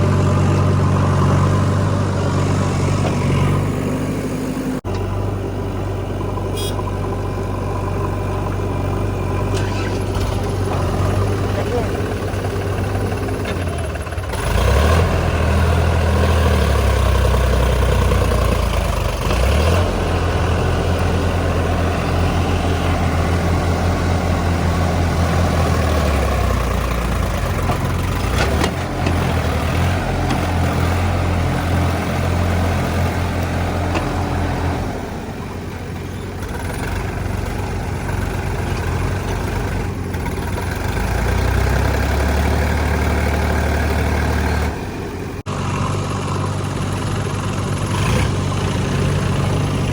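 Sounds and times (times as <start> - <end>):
backhoe diesel engine revving: 0.0 - 49.9.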